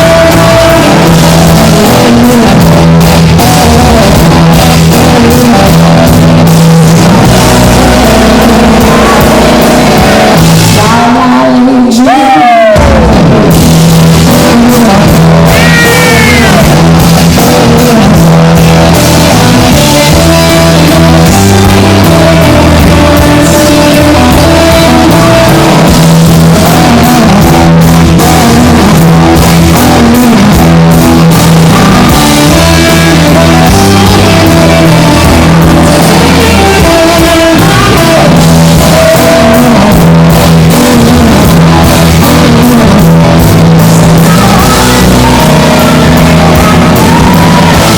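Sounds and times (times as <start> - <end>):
bass guitar: 0.0 - 47.9
drum kit: 0.0 - 47.9
electric guitar: 0.0 - 47.9
person singing: 0.0 - 47.9.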